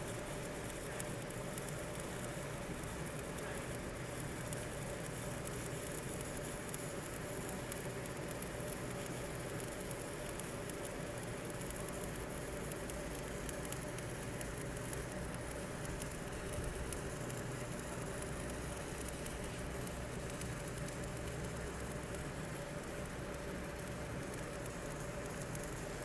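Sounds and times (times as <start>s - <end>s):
faint steady hum: 0.0s - 26.0s
welding arc crackling hiss: 0.0s - 26.0s.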